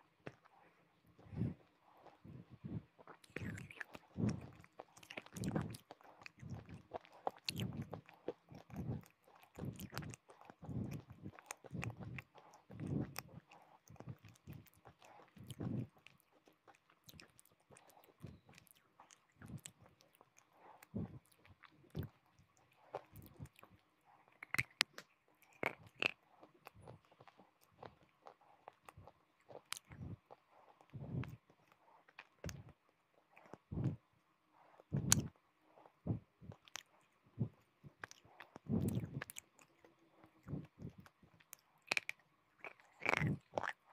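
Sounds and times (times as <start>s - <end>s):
chewing brittle clay: 0.0s - 43.9s.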